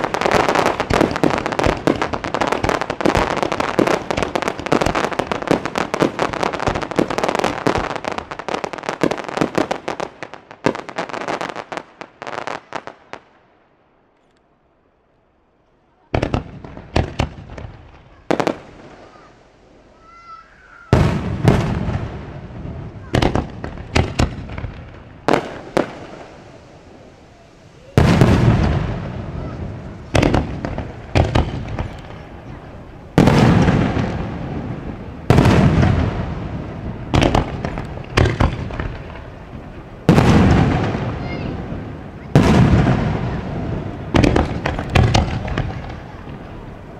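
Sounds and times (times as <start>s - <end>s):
fireworks bangs: 0.0s - 13.4s, 16.0s - 46.9s
fireworks crackling pops: 0.0s - 13.4s, 16.0s - 46.9s.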